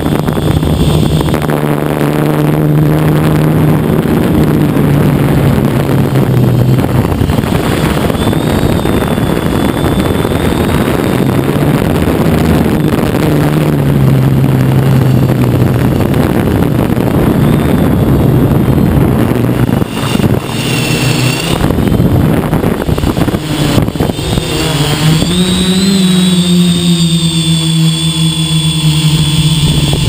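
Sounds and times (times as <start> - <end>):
drone motors buzzing hum: 0.0 - 30.0
wind rush: 0.0 - 30.0.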